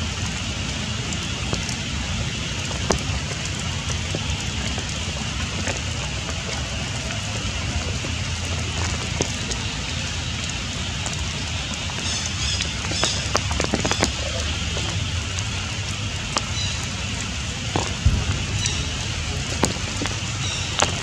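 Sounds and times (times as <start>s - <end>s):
rain on forest leaves: 0.0s - 21.0s
sharp drips and taps: 0.0s - 21.0s.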